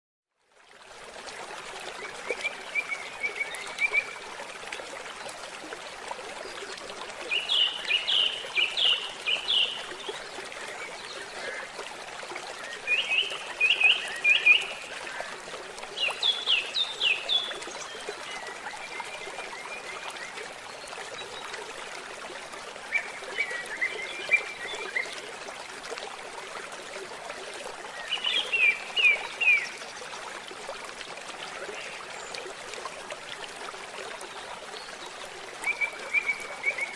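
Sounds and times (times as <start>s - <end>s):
forest stream trickling: 0.3s - 36.9s.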